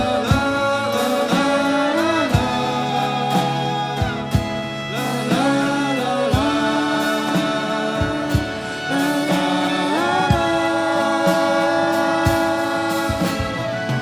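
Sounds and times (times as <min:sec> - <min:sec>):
band accompaniment: 0:00.0 - 0:14.0
person singing long notes: 0:00.0 - 0:14.0.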